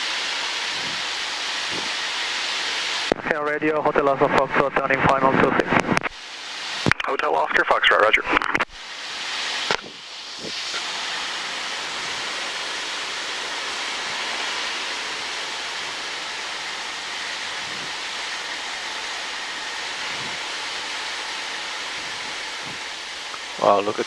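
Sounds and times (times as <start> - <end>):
airplane cabin engine rush: 0.0 - 24.0.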